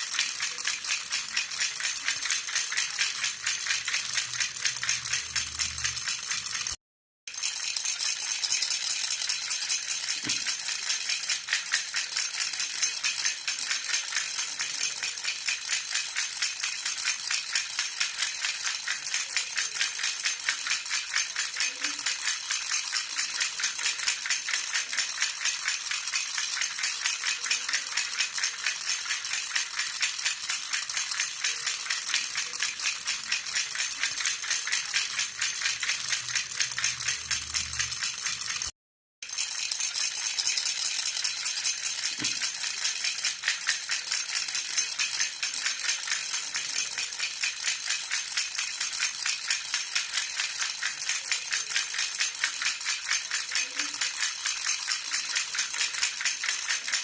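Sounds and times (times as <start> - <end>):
baby rattle jingling: 0.0 - 6.8, 7.4 - 57.0.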